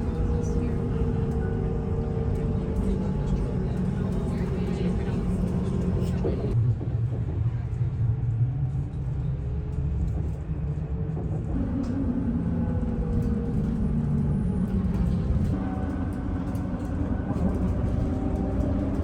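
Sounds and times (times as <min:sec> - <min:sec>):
road vehicle engine rumble: 0:00.0 - 0:19.0.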